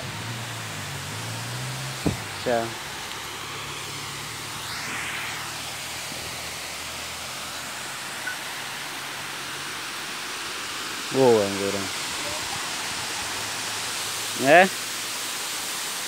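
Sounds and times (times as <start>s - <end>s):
water rushing down spillway: 0.0s - 16.0s.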